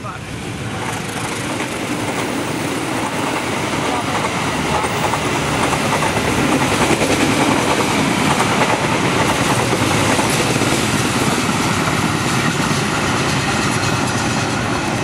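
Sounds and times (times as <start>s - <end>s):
train wheels clattering on rails: 0.6s - 15.0s.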